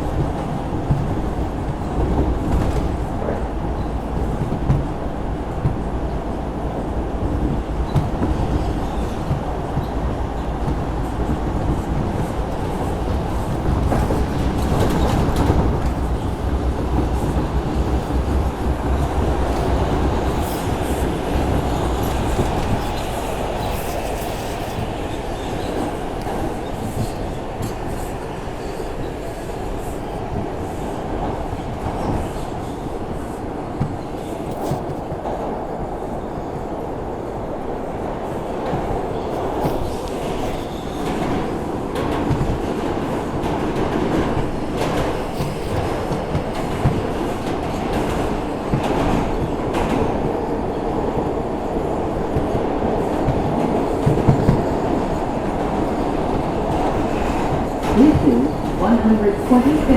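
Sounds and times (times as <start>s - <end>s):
rail-joint clatter: 0.0s - 36.5s, 38.2s - 59.9s
subway wheels rumbling on rails: 0.0s - 59.9s.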